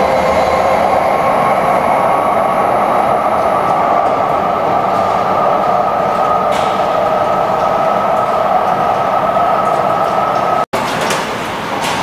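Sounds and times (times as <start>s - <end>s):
high-speed train rushing: 0.0s - 12.0s.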